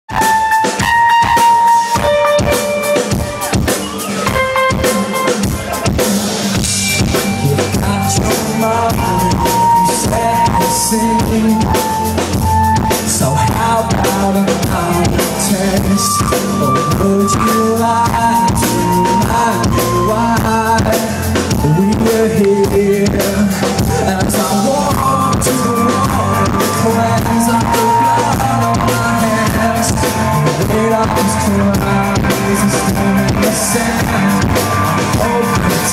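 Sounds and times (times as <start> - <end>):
drum kit beat: 0.1 - 35.9
rock band playing live: 0.1 - 35.9.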